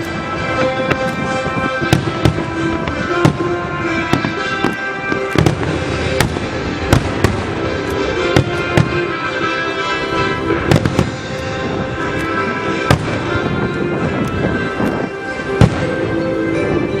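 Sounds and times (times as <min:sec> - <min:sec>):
steady music: 0:00.0 - 0:17.0.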